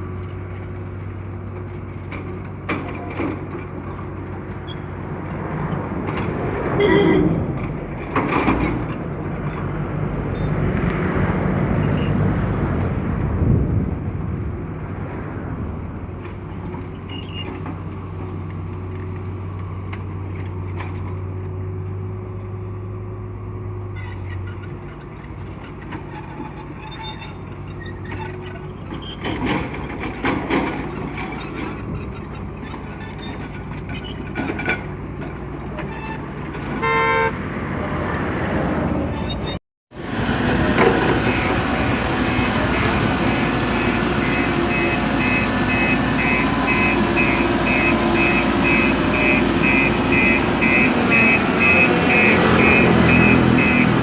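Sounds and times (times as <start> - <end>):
heavy diesel engines running: 0.0 - 54.0
vehicles passing close by: 0.0 - 54.0.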